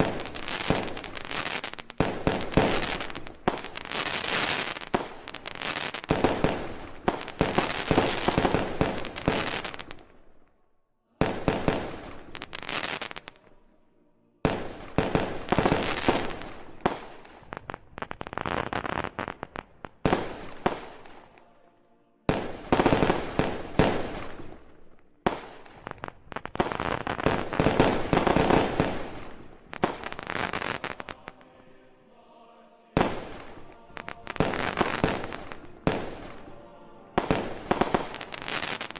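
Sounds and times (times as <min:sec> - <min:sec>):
firework crackling: 0:00.0 - 0:10.2, 0:11.2 - 0:13.4, 0:14.5 - 0:21.2, 0:22.4 - 0:31.4, 0:33.0 - 0:38.9.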